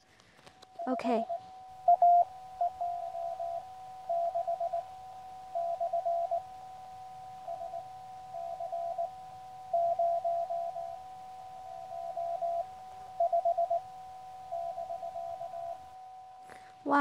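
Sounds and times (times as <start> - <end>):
faint steady tones: 0.0 - 17.0
morse code beeps: 0.7 - 16.3.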